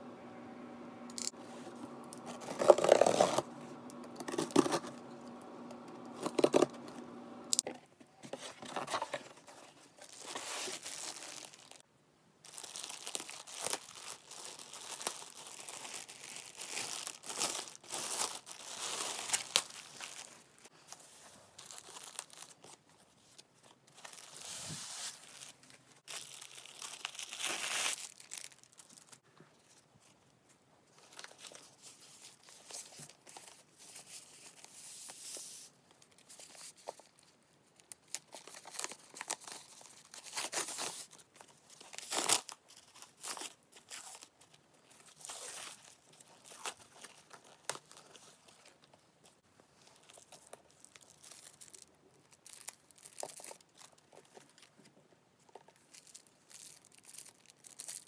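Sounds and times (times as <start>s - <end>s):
wrapping rustling and tearing: 1.0s - 7.0s, 8.4s - 11.8s, 12.4s - 30.1s, 30.9s - 58.0s.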